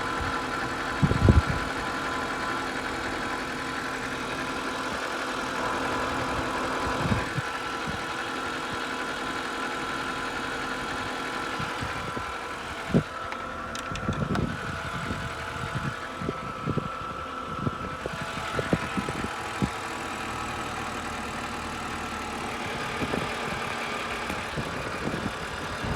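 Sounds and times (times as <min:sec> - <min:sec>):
car engine idling with whine: 0:00.0 - 0:25.9.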